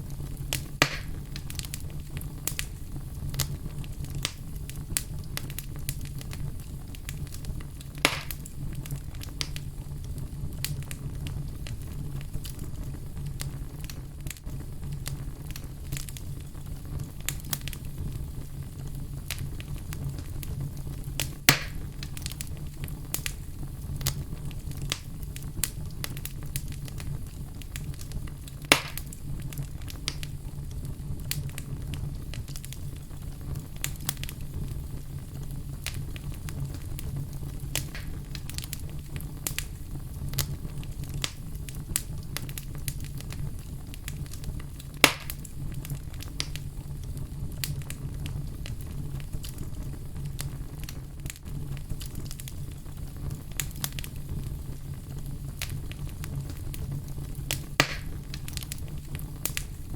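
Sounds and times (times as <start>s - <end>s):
fireplace fire crackling: 0.0s - 59.9s
loud pops of fire: 0.0s - 59.9s.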